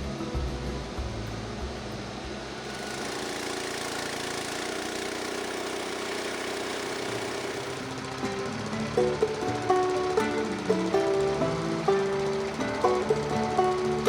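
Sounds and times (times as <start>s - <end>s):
small gasoline engine running: 0.8s - 14.0s.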